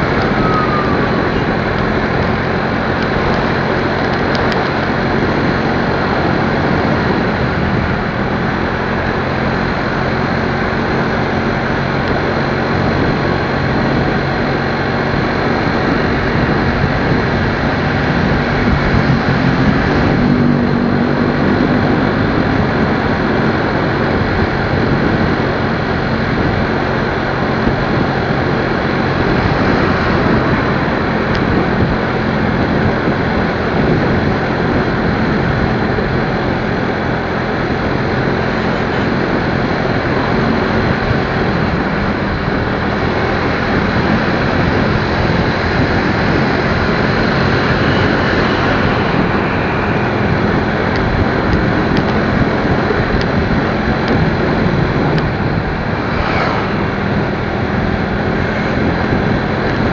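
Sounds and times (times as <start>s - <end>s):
low engine hum: 0.0s - 59.9s
wind and road noise: 0.0s - 59.9s.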